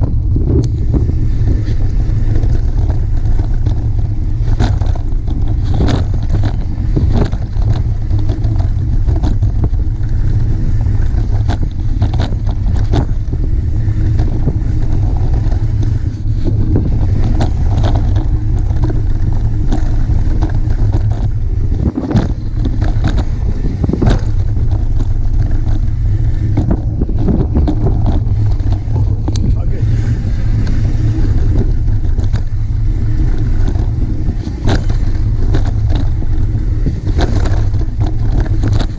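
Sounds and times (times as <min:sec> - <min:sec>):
bike knocks and rattles: 0:00.0 - 0:38.9
tyres on loose dirt: 0:00.0 - 0:38.9
wind rumbling on microphone: 0:00.0 - 0:38.9.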